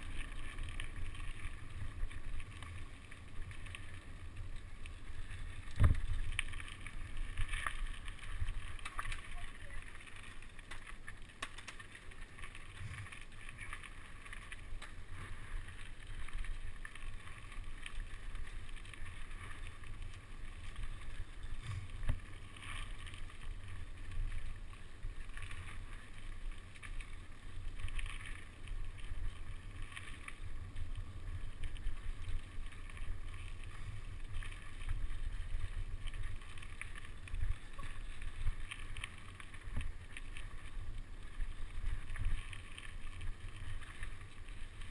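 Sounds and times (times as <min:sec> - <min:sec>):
bike tyres rumbling on dirt trail: 0:00.0 - 0:44.9.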